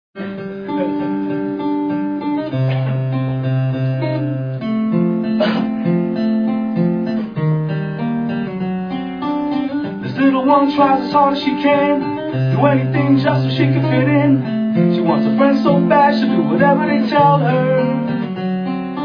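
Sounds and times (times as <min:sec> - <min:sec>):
acoustic guitar chords: 0:00.2 - 0:19.0.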